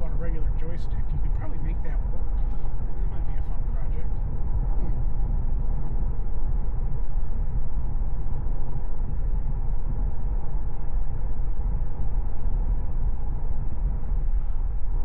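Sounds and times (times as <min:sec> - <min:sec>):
road and tyre noise inside car: 0:00.0 - 0:15.0.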